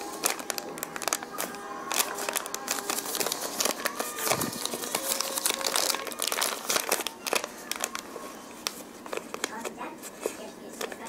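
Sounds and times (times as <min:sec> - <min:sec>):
paper bag crinkling: 0:00.0 - 0:11.0.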